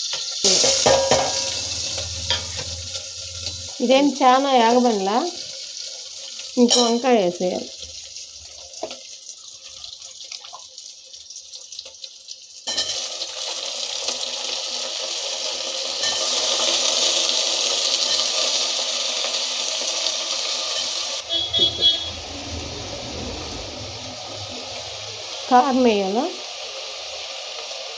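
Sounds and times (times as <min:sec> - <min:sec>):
loud sizzle of frying vegetables: 0:00.0 - 0:27.9
onions frying in oil: 0:00.0 - 0:27.9.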